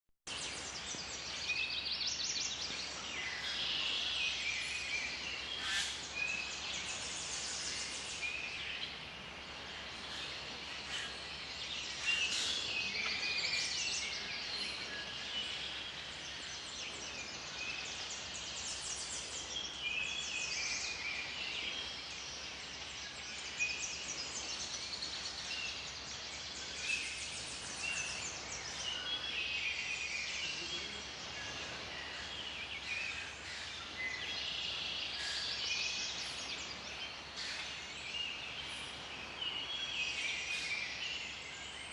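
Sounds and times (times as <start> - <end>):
faint steady hiss: 0.3 - 41.9
songbirds singing: 0.3 - 41.9.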